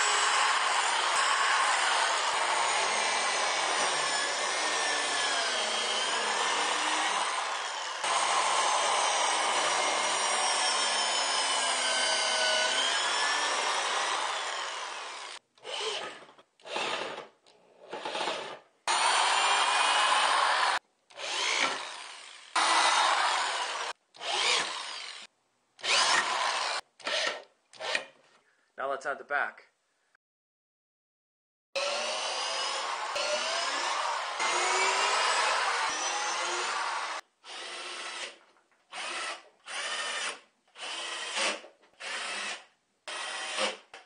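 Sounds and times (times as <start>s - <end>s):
electric drill motor: 0.0s - 17.3s, 17.9s - 28.1s, 31.8s - 43.8s.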